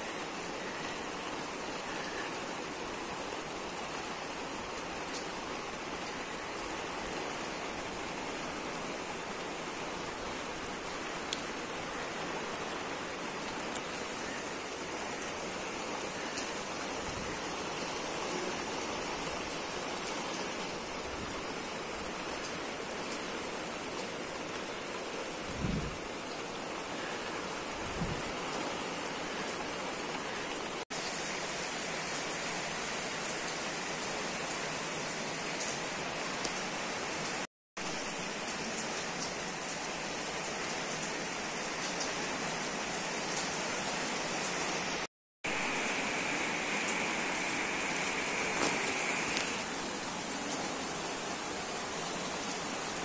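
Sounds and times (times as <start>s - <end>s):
rain on concrete rooftop: 0.0s - 53.0s
rain splashing into puddles: 0.0s - 53.0s.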